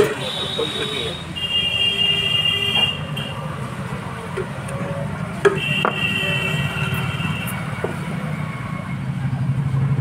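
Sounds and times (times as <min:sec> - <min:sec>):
steady engine hum: 0:00.0 - 0:10.0.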